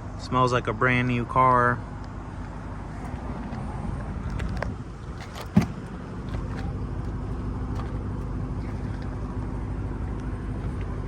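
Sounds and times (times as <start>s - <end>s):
faint constant hum: 0.0s - 11.0s
steady low rumble: 0.0s - 11.0s.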